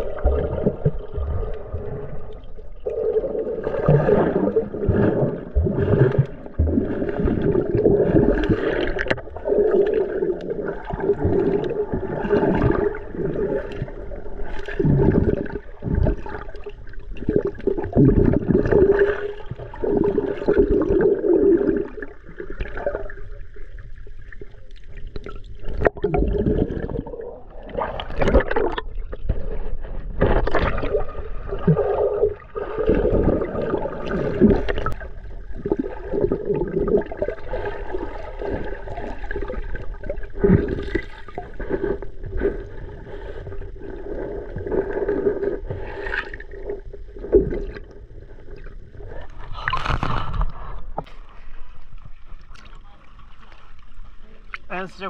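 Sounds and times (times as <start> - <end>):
underwater sloshing and gurgling: 0.0 - 55.0.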